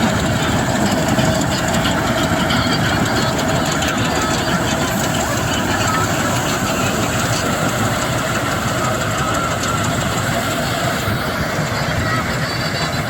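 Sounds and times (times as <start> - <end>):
harvester engine running: 0.0 - 13.0.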